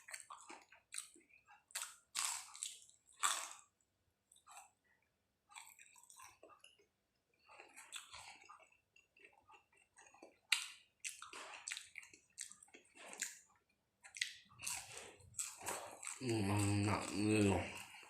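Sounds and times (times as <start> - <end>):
wet chewing and smacking: 0.0 - 18.0.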